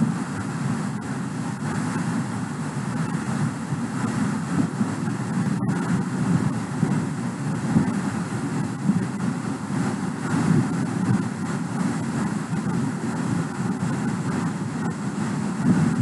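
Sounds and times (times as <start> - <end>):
low rushing noise: 0.0 - 16.0.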